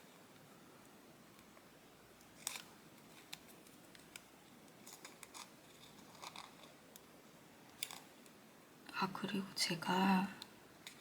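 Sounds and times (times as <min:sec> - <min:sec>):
room hiss: 0:00.0 - 0:11.0.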